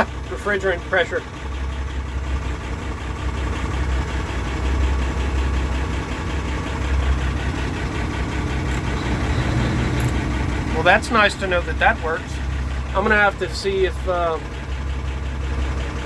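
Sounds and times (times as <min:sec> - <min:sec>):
diesel tractor engine idling: 0:00.0 - 0:16.0.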